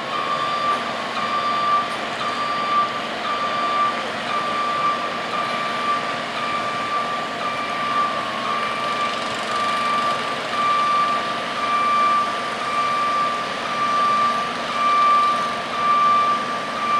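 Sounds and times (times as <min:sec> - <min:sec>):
reversing alarm beeping: 0:00.0 - 0:16.9
truck machinery running: 0:00.0 - 0:16.9.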